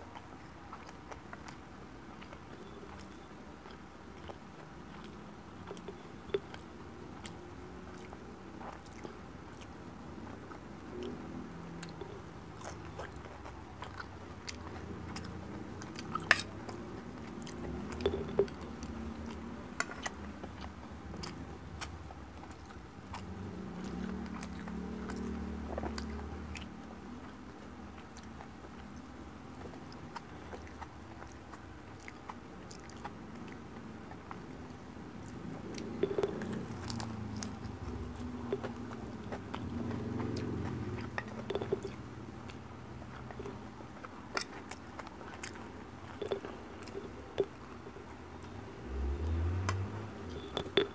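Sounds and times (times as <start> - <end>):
person chewing food: 0.0 - 50.9.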